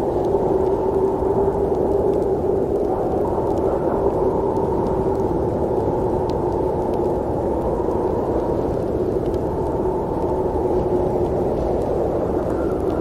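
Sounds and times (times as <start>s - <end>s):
deep snowstorm wind: 0.0s - 13.0s.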